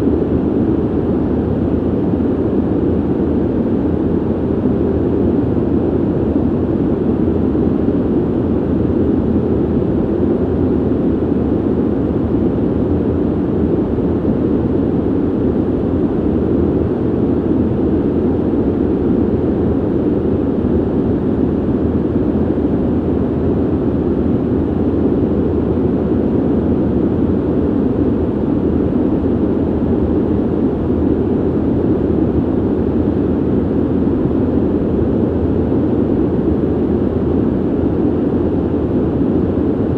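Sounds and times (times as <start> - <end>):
ventilation airflow rushing: 0.0 - 39.9.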